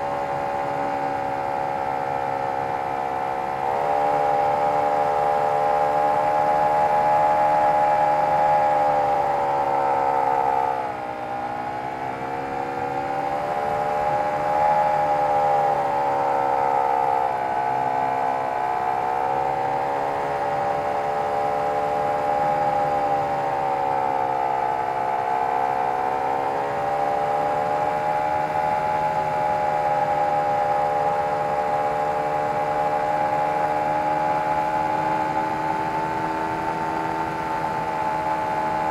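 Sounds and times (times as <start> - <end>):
model airplane engine running: 0.0 - 38.9.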